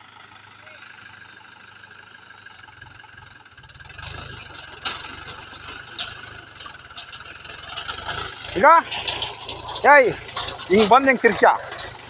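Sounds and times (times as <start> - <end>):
rattle and clatter: 0.0 - 12.0
tractor diesel engine running: 0.0 - 12.0.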